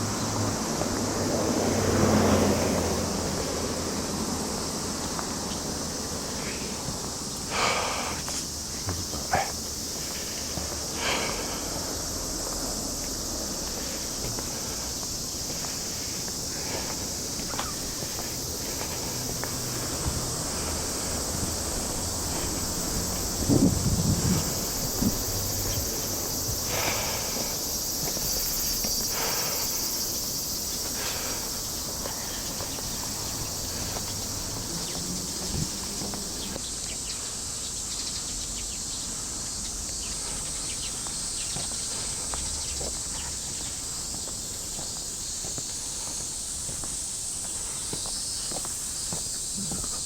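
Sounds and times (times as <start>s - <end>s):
cicadas chorus: 0.0s - 50.0s
faint footsteps: 4.9s - 36.6s, 39.8s - 50.0s.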